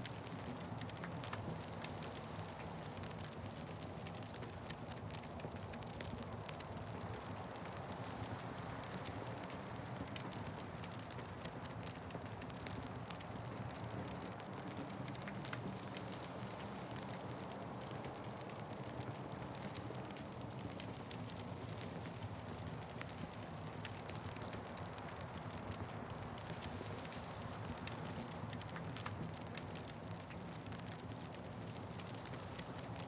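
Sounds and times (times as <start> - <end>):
wood fire crackling: 0.1 - 33.0.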